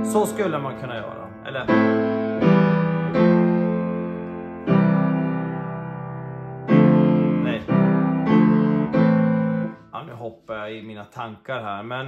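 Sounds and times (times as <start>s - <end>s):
piano playing slow block chords: 0.0s - 10.0s.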